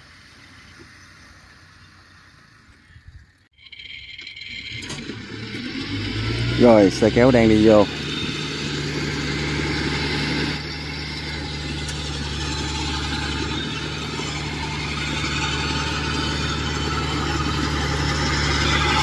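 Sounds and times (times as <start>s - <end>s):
tractor engine running: 0.0s - 19.0s
combine harvester engine: 3.6s - 19.0s.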